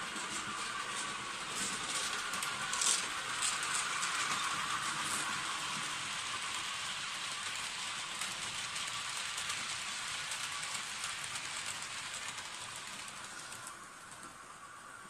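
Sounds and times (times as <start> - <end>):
model train wheels hissing on rail: 0.0 - 15.0.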